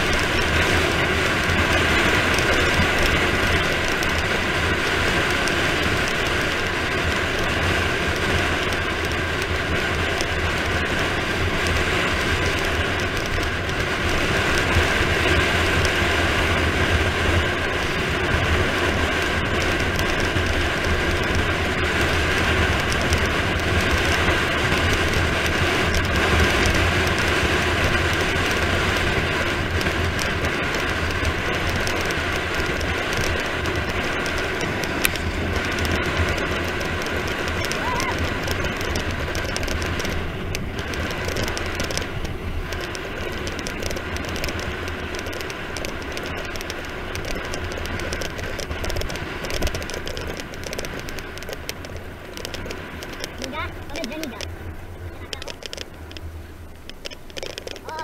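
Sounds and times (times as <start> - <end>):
tyre and road rumble: 0.0 - 58.0
wind rushing over microphone: 0.0 - 58.0.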